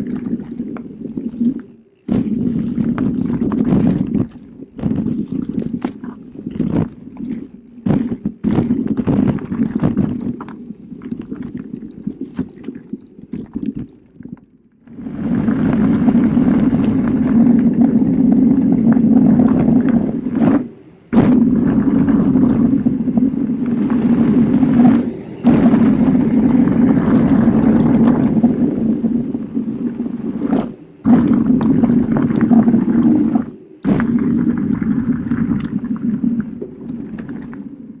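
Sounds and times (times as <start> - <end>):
bike tyres rumbling over ground: 0.0 - 38.0.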